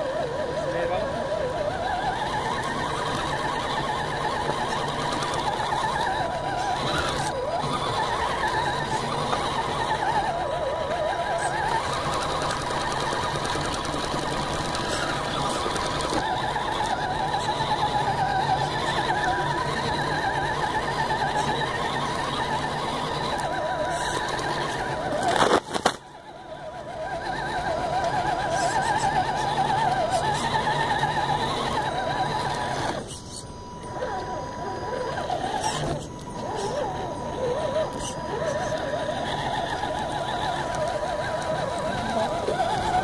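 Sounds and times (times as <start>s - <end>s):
toy car electric motor whining: 0.0s - 43.0s.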